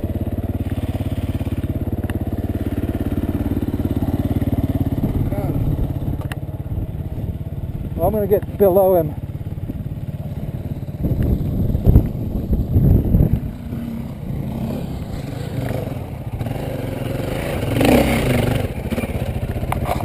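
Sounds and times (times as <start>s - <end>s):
dirt bike engine idling: 0.0s - 20.0s.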